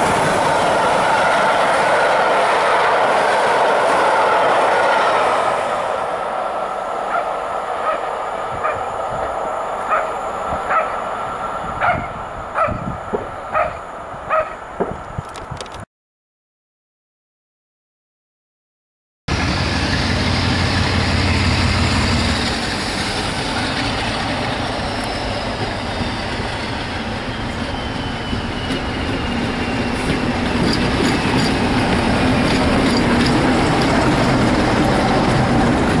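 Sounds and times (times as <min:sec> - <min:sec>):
train rumbling past: 0:00.0 - 0:15.2, 0:19.3 - 0:36.0.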